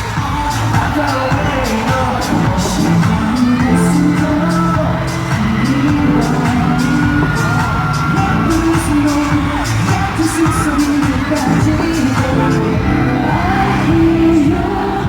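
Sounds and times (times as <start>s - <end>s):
audience whoops: 0.0s - 15.0s
live pop music with singing: 0.0s - 15.0s.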